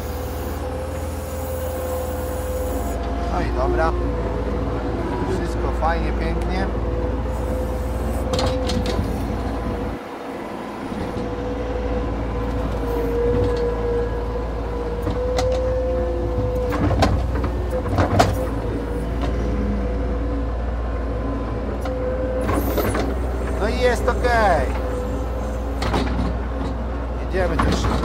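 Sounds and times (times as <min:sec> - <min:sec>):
loader engine whining under load: 0:00.0 - 0:28.0.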